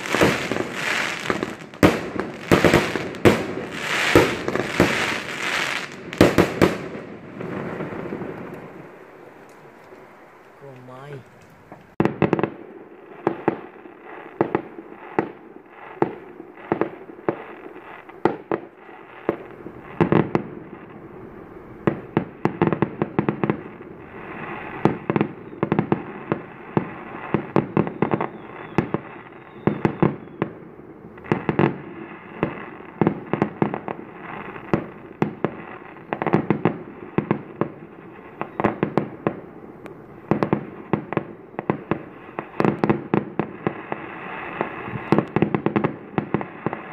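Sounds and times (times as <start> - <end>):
fireworks banging: 0.0 - 46.9
fireworks crackling: 0.0 - 46.9.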